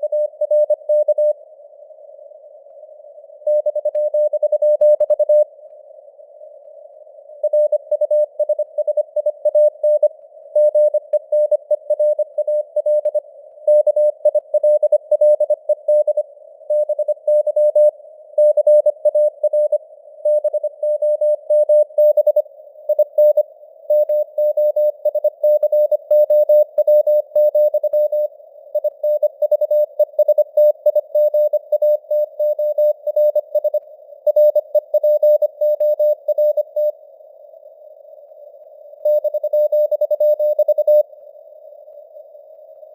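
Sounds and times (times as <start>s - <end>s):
faint radio hiss: 0.0s - 4.4s, 5.1s - 11.1s, 13.2s - 14.2s, 16.2s - 16.7s, 17.9s - 20.8s, 22.3s - 42.9s.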